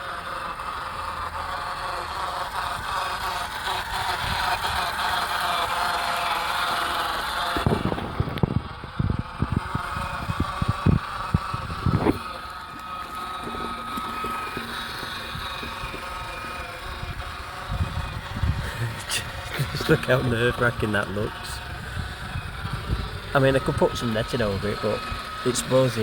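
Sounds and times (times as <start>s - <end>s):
thin steady whine: 0.0s - 26.0s.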